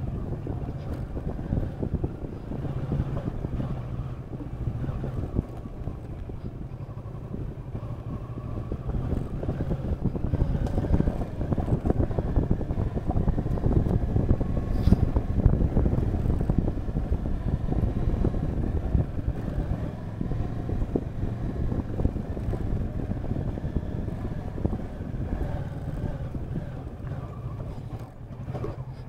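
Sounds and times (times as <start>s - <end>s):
motorcycle engine running: 0.0s - 29.0s
wind on microphone: 0.0s - 29.0s.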